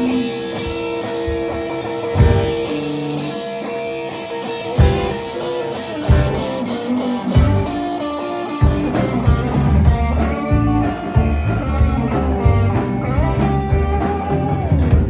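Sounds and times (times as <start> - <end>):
blues-rock band playing: 0.0 - 15.0
lead electric guitar bending notes: 0.0 - 15.0.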